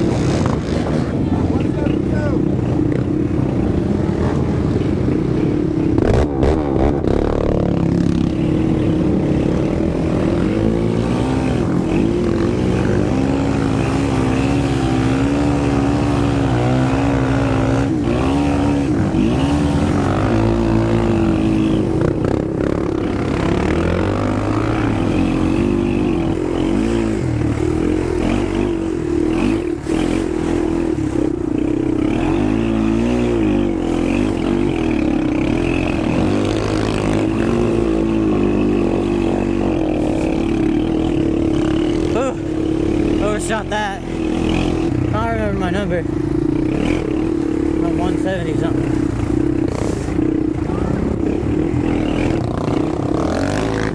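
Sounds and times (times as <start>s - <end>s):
quad engine running hard: 0.0s - 53.9s.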